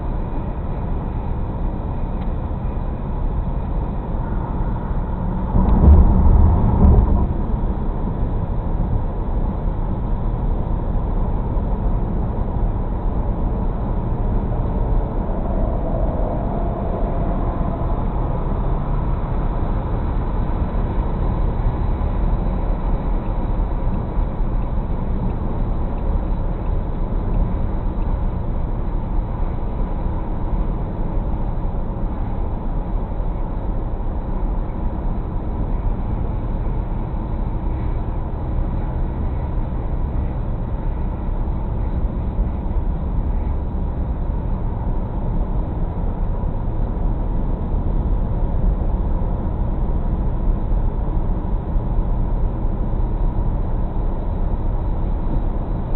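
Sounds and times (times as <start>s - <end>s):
car road and engine noise: 0.0s - 55.9s.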